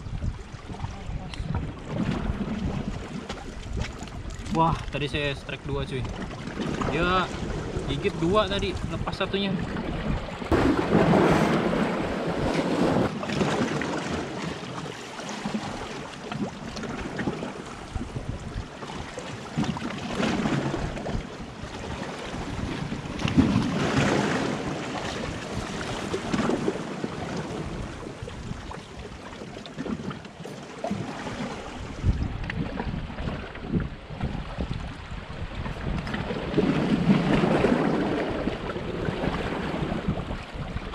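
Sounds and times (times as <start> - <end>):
wind buffeting microphone: 0.0 - 14.8, 15.4 - 30.1, 30.8 - 40.9
waves splashing against rocks: 0.0 - 40.9.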